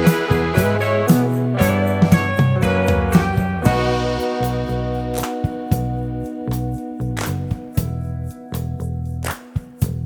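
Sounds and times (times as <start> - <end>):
music with bass and guitar: 0.0 - 10.0.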